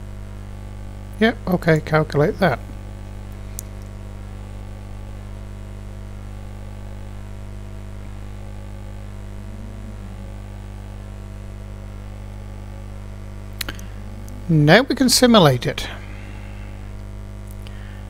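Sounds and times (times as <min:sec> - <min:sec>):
mains hum: 0:00.0 - 0:18.0.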